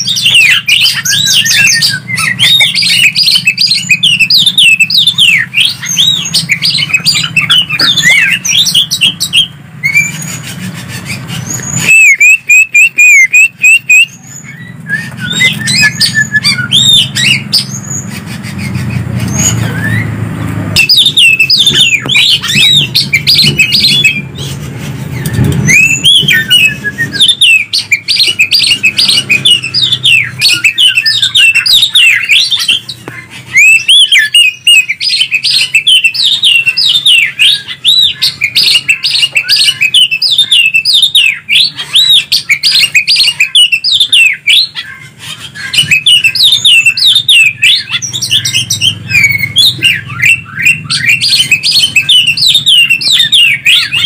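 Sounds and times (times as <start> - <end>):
birds singing chirps and whistles: 0.0 - 54.0.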